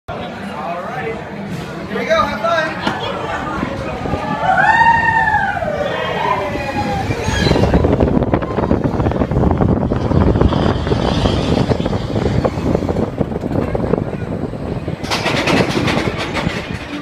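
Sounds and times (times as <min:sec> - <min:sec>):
roller coaster rumble and rattle: 0:00.1 - 0:17.0.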